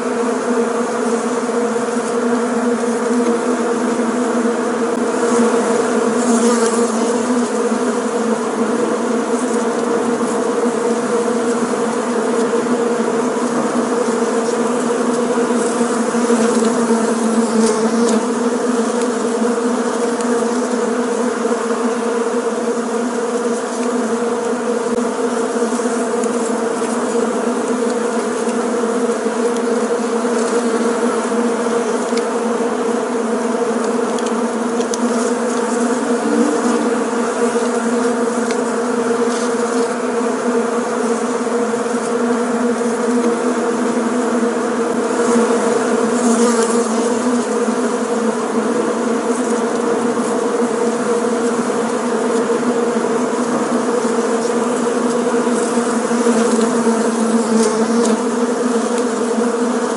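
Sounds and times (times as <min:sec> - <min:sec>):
bees buzzing: 0:00.0 - 0:59.9.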